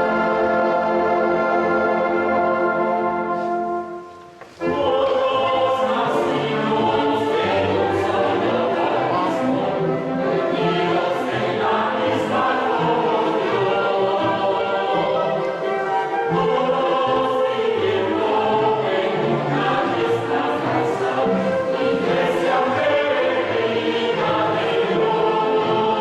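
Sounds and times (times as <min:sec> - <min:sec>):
choir singing with accompaniment: 0:00.0 - 0:26.0
music with sustained tones: 0:00.0 - 0:26.0.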